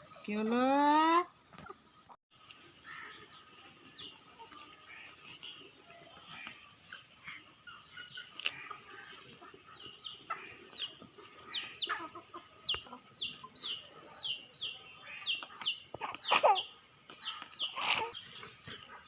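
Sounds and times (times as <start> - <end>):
chicken peeping: 3.1 - 19.0.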